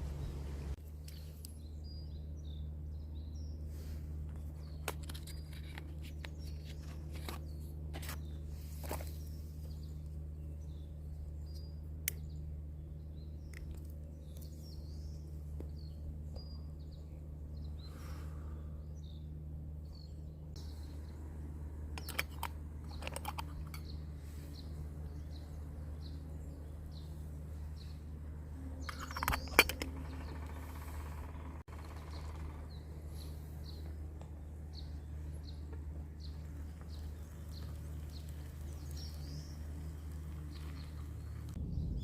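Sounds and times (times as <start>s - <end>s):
birds chirping: 0.0s - 42.0s
steady low hum: 0.0s - 42.0s.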